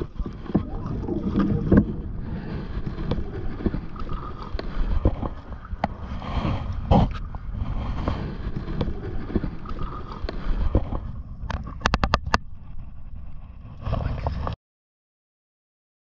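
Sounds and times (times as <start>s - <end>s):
sea noise: 0.0s - 14.6s
wind buffeting microphone: 0.0s - 14.6s.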